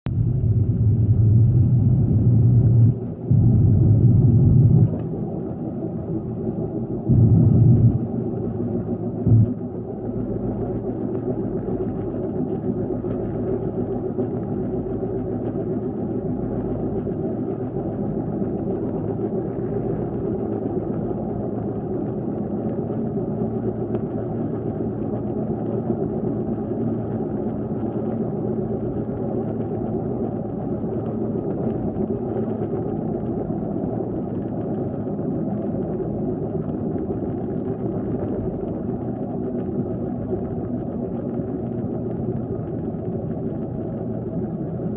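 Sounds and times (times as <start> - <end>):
car driving road noise: 0.1 - 44.9.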